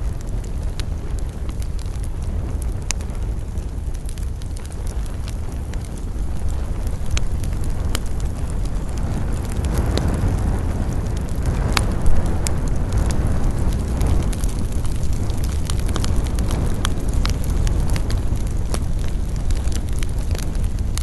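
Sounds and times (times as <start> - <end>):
campfire flames roaring: 0.0 - 21.0
fire crackles and pops: 0.0 - 21.0.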